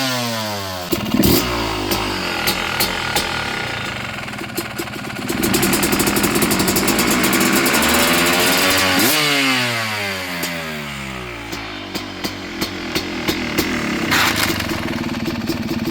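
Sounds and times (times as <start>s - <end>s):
dirt bike engine revving: 0.0s - 15.9s
exhaust pops: 0.9s - 9.1s, 11.4s - 15.9s.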